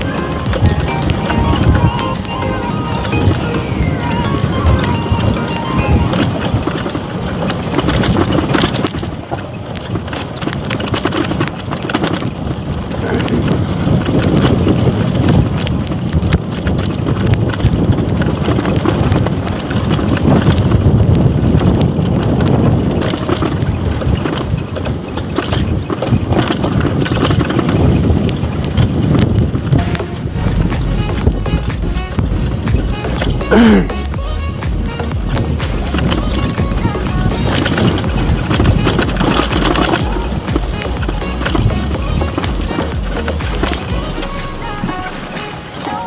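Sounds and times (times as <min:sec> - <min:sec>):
motorcycle engine running: 0:00.0 - 0:46.0
wind on microphone: 0:00.0 - 0:46.0.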